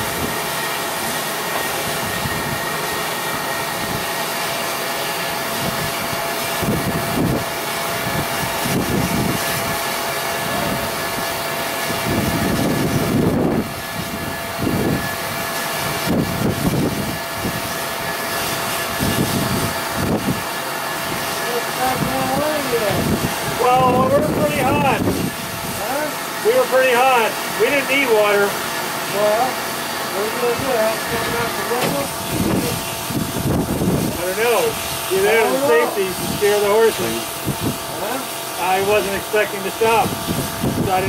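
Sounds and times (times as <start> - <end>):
steam train hissing and rumbling: 0.0 - 41.0.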